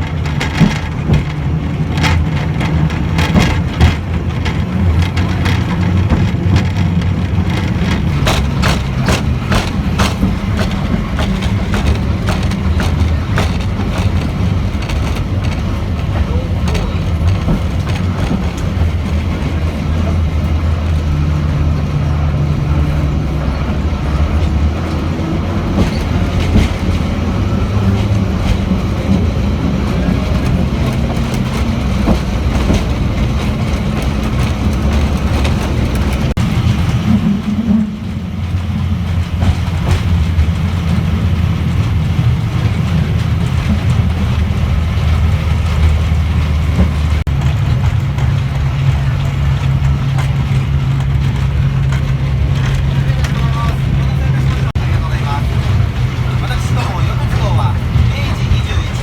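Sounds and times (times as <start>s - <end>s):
diesel locomotive engine hum: 0.0s - 59.0s
wheel and rail clatter: 0.0s - 59.0s.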